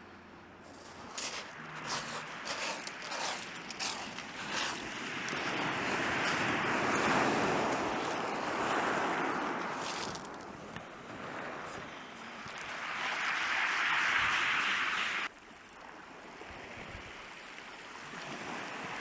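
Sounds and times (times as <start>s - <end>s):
sea waves breaking on shore: 0.7s - 16.8s.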